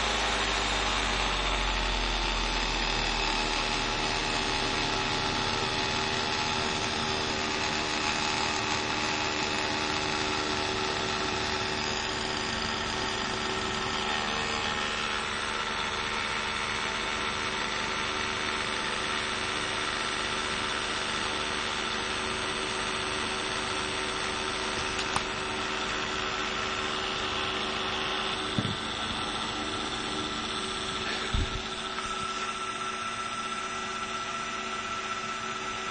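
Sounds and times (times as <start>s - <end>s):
electric motor whine: 0.0s - 35.9s.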